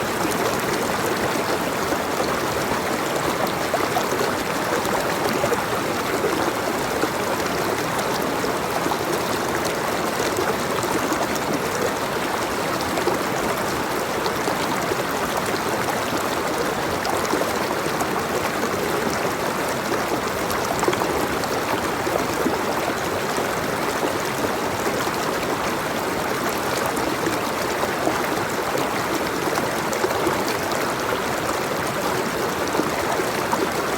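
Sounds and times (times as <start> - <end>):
water rushing and babbling: 0.0 - 33.9.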